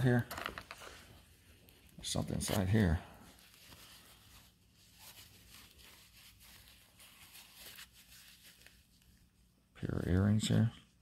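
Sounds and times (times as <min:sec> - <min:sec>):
faint rustling of pouch: 0:00.0 - 0:11.0.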